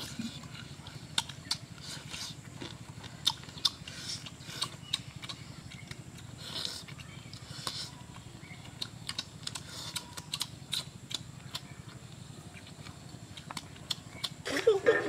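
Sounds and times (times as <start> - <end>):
chewing chicken with wet smacks: 0.0 - 14.8.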